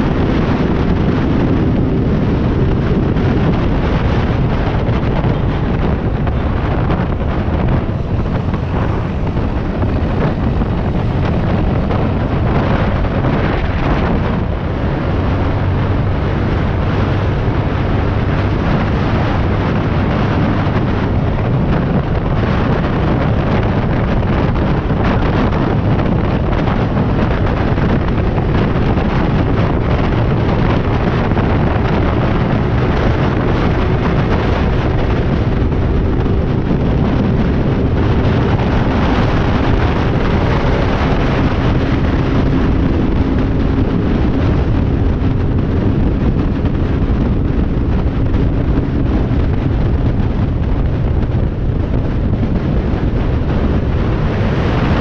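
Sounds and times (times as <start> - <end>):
motorcycle engine running: 0.0 - 55.0
wind buffeting on microphone: 0.0 - 55.0.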